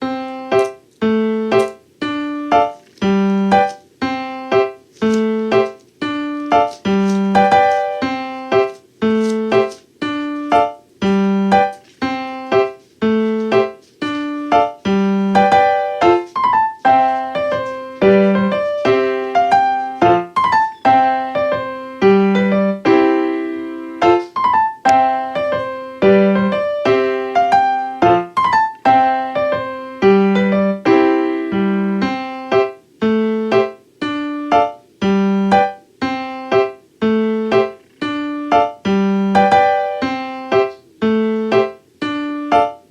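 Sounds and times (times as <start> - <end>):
piano tune: 0.0 - 42.9.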